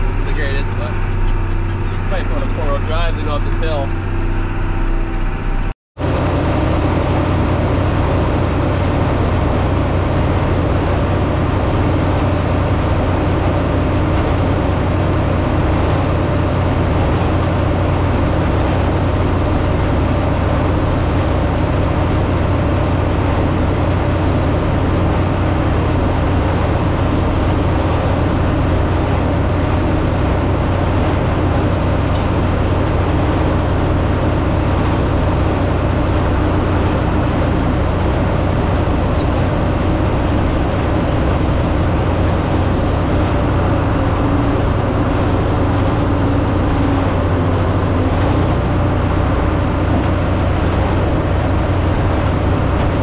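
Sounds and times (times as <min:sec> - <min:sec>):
farm machine engine droning: 0:00.0 - 0:53.0.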